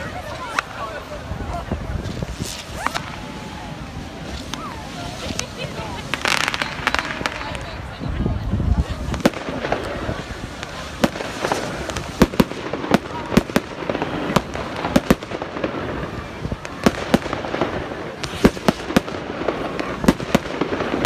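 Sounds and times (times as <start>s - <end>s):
background hubbub: 0.0s - 21.0s
fireworks bangs: 0.0s - 21.0s.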